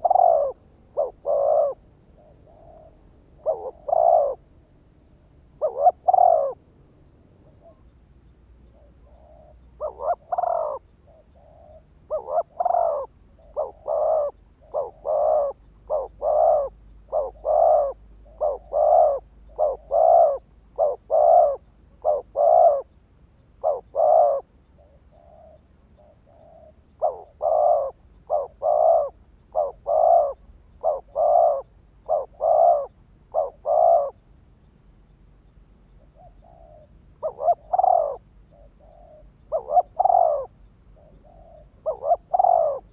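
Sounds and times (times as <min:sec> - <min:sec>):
dove cooing: 0:00.0 - 0:06.7, 0:07.4 - 0:07.9, 0:08.6 - 0:23.0, 0:23.6 - 0:34.2, 0:36.0 - 0:42.9.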